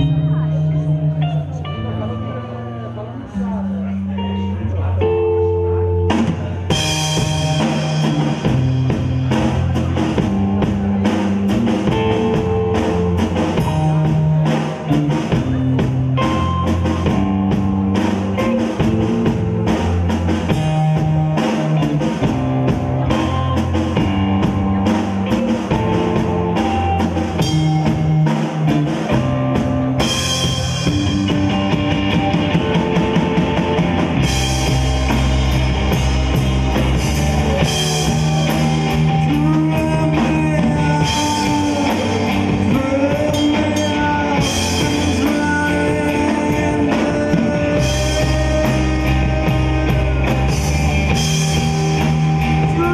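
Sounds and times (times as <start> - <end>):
rock band playing live: 0.0 - 52.9
drums and cymbals: 6.1 - 52.9.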